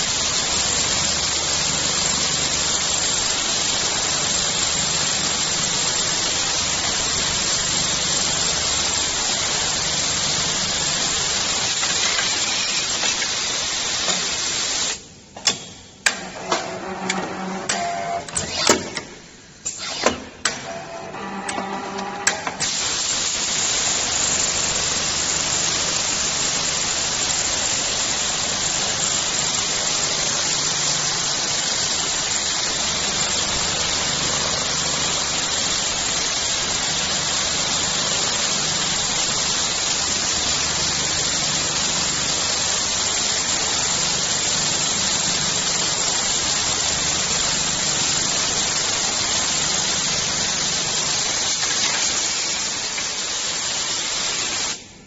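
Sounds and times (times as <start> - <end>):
loud steady hiss: 0.0 - 16.4, 22.3 - 55.0.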